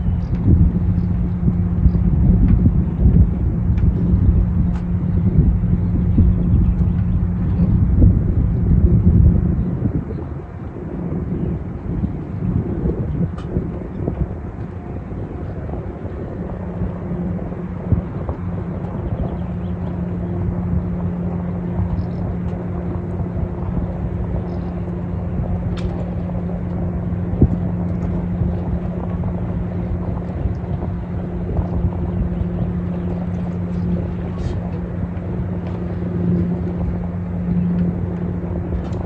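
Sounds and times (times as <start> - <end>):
ship engines droning: 0.0 - 39.0.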